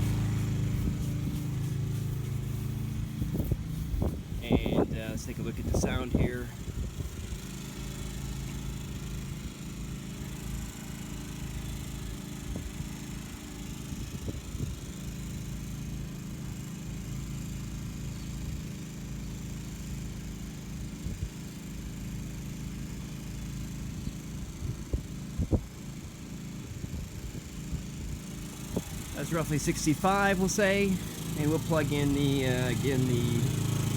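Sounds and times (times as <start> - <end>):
generator humming: 0.0 - 20.9, 21.5 - 33.9.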